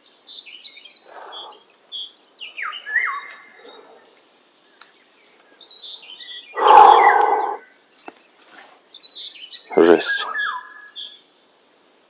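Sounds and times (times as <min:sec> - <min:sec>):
small birds singing: 0:00.0 - 0:11.6.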